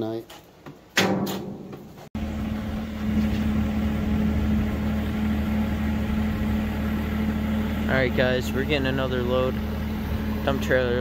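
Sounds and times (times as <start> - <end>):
tractor engine running: 2.2 - 11.0.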